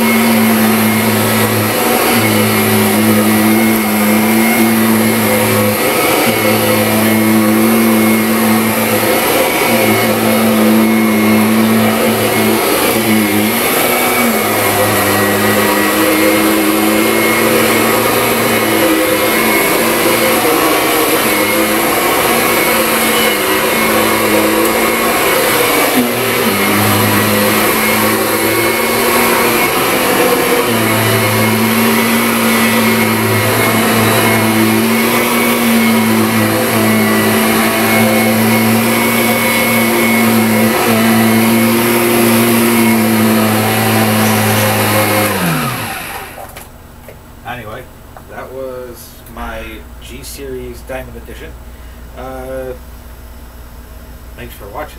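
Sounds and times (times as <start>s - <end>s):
vacuum cleaner running on carpet: 0.0s - 46.6s.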